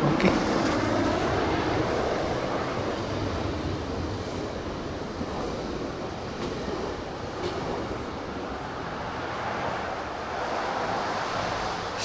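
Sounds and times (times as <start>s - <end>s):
train passing rumble: 0.0s - 12.0s.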